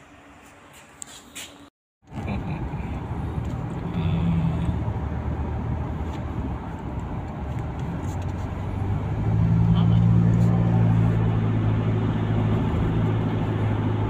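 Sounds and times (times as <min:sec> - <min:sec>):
car engine and tyre rumble: 0:02.0 - 0:14.0.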